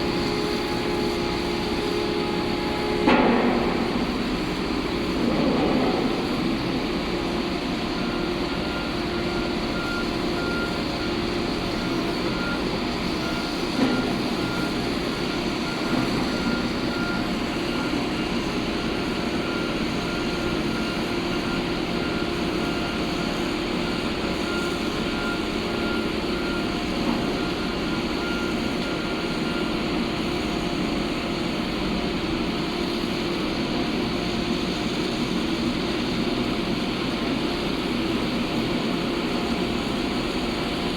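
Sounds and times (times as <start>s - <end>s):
diesel machinery running: 0.0s - 40.9s.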